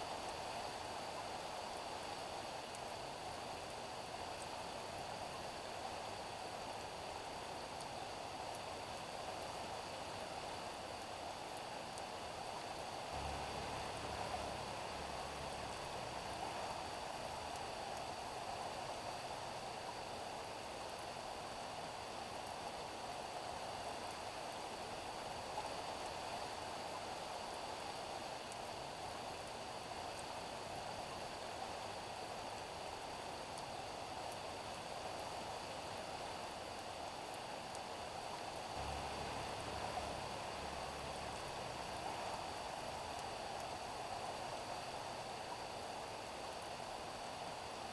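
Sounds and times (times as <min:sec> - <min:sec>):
rain falling on a street: 0:00.1 - 0:47.9.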